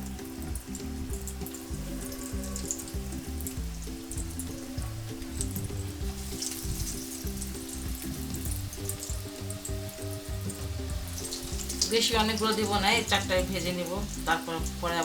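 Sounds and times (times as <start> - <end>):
background music: 0.0 - 15.0
food sizzling in hot oil: 0.0 - 15.0.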